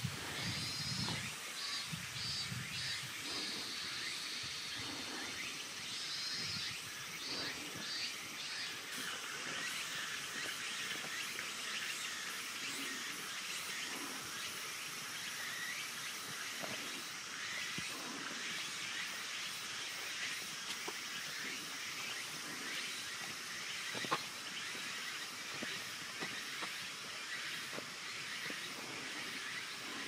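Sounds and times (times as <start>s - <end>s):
birds chirping: 0.0s - 30.0s
chirping insects: 0.0s - 30.0s.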